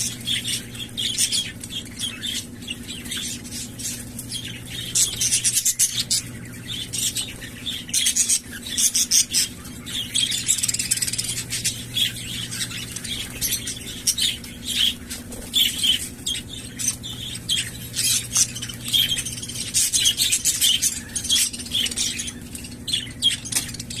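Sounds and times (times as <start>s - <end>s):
budgerigars chirping and chattering: 0.0s - 24.0s
low steady hum: 0.0s - 24.0s.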